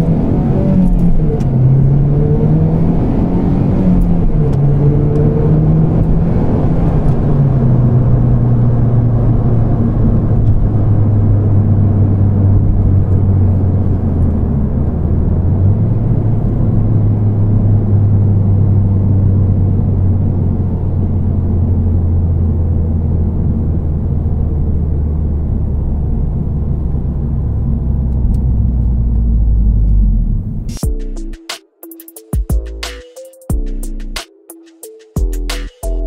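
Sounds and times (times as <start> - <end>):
road rumble: 0.0 - 31.5.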